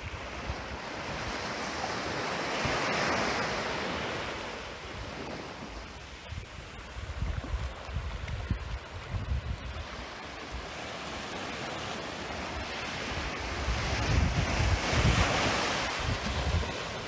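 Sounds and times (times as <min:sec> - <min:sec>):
small waves breaking on shore: 0:00.0 - 0:17.0
wind rumbling on microphone: 0:00.0 - 0:17.0.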